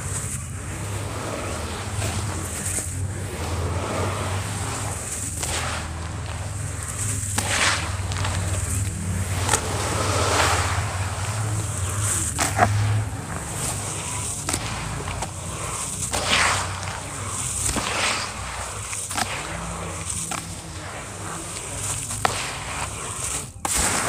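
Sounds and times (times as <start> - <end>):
wet sand splats and crunches: 0.0 - 24.0.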